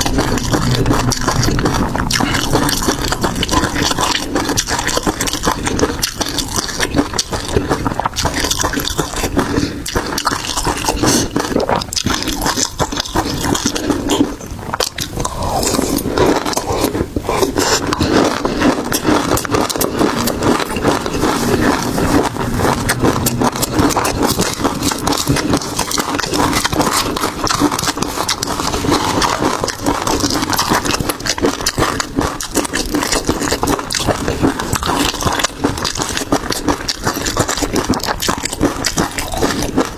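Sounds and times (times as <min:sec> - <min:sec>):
wet chewing and crunching: 0:00.0 - 0:39.9.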